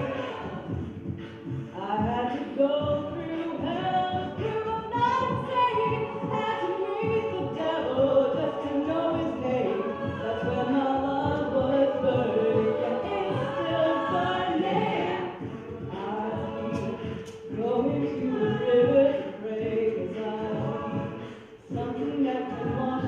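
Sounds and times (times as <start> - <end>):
a cappella group singing in harmony: 0.0 - 23.0.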